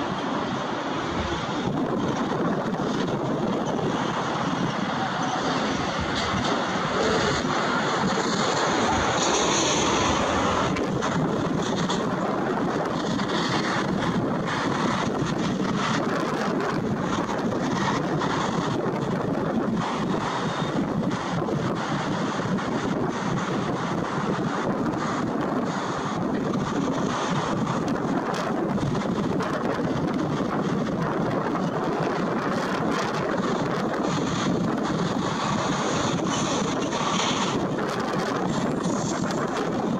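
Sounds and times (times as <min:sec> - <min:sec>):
jet engines at takeoff: 0:00.0 - 0:39.9
wind on microphone: 0:00.0 - 0:39.9.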